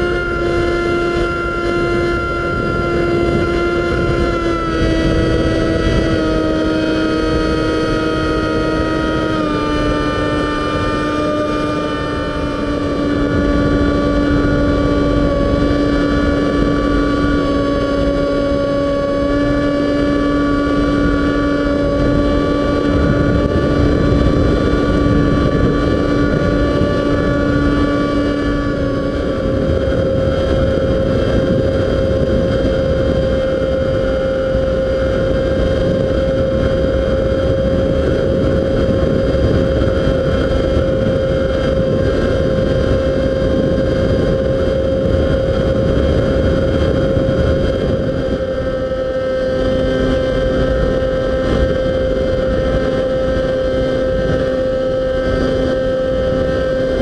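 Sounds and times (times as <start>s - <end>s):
model airplane motor whine: 0.0s - 57.0s
wind buffeting microphone: 0.0s - 57.0s.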